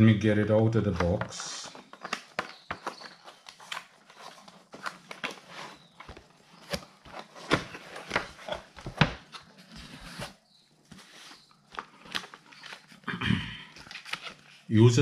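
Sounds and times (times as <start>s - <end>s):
packaging rustle: 1.6s - 13.1s, 13.8s - 14.7s.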